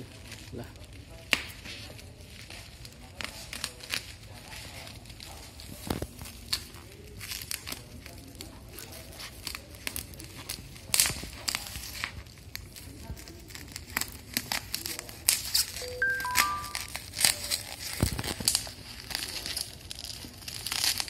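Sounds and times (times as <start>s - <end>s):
scissors cutting bubble wrap: 0.0s - 21.0s.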